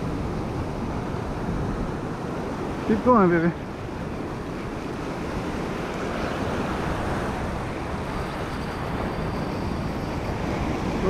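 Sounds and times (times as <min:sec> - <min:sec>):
ocean surf washing over rocks: 0:00.0 - 0:11.0
wind buffeting microphone: 0:00.0 - 0:11.0.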